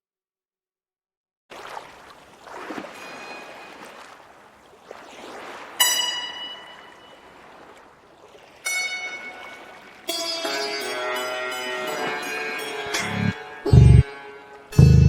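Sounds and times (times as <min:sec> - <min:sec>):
flowing water rushing: 0:01.5 - 0:14.9.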